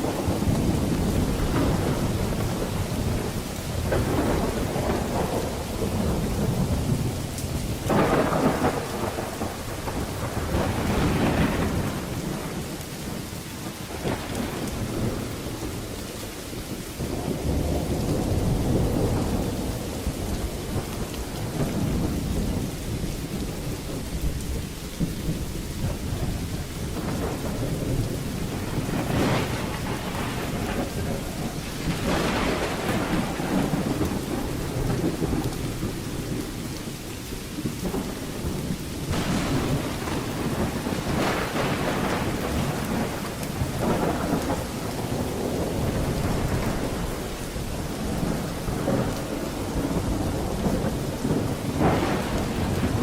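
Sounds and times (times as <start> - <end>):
heavy rain: 0.0 - 53.0
low rolling thunder: 0.0 - 53.0.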